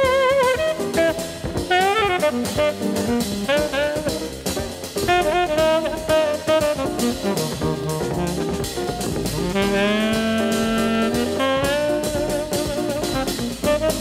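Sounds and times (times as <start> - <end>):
jazz drums and rhythm section: 0.0 - 14.0
tenor saxophone melody: 0.0 - 14.0.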